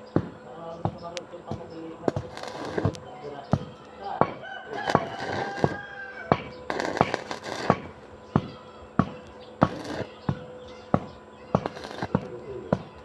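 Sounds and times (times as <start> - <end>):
hammer striking metal: 0.2 - 12.9.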